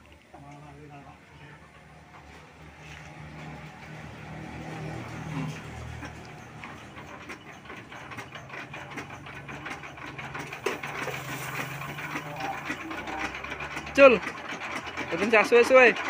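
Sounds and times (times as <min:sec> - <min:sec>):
diesel engine running: 0:01.6 - 0:16.0.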